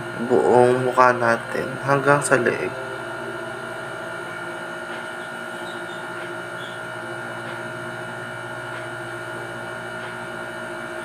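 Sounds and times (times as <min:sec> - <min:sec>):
appliance hum with pitched whines: 0:00.0 - 0:11.0.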